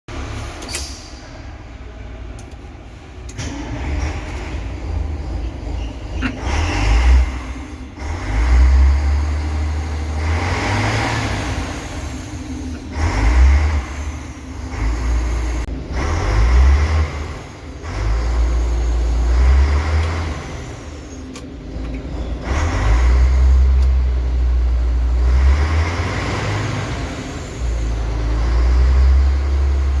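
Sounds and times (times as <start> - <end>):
bus diesel engine revving: 0.1 - 30.0.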